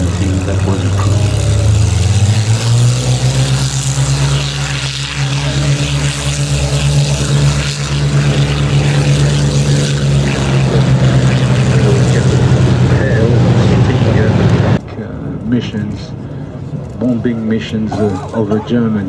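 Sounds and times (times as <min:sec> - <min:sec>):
propeller engines droning: 0:00.0 - 0:19.0.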